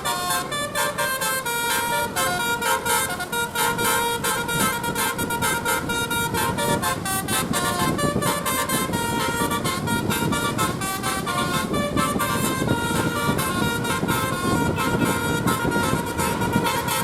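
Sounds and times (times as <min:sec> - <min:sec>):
bus melody horn: 0:00.0 - 0:17.0.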